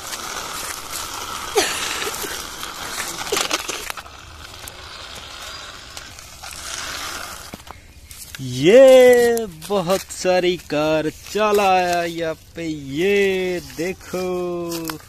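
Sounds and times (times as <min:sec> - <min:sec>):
toy car wheels scraping concrete: 0:00.0 - 0:15.0.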